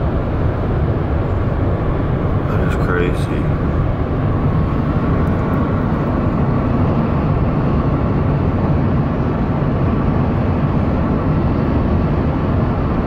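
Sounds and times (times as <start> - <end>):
road noise of car at speed: 0.0 - 13.0.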